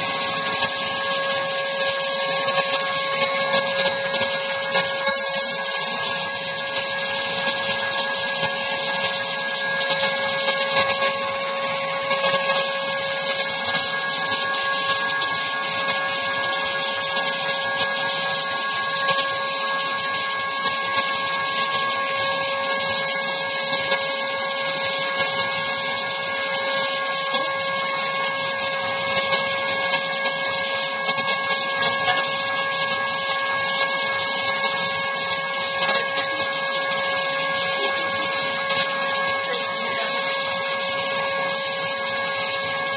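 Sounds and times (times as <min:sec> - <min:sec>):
motor whine: 0:00.0 - 0:42.9.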